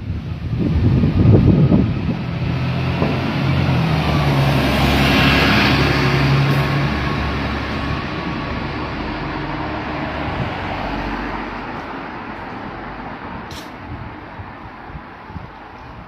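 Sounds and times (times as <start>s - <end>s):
passing vehicle engine: 0.0s - 16.0s.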